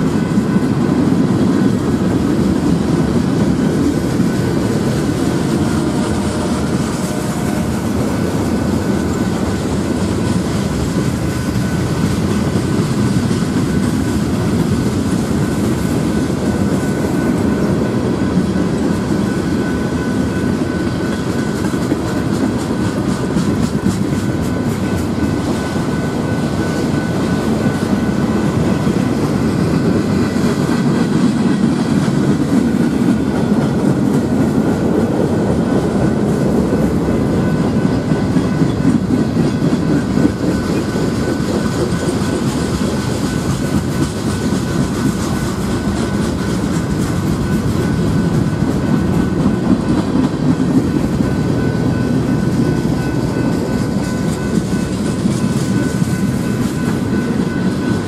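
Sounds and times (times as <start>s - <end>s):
high ringing from wheels: 0.0s - 58.0s
steel wheels rumbling on rail: 0.0s - 58.0s
wheels clicking over rail joints: 0.0s - 58.0s.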